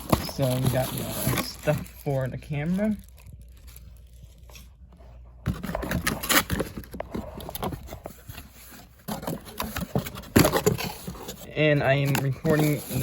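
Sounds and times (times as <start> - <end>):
packaging rustling: 0.0 - 4.9, 5.5 - 13.0.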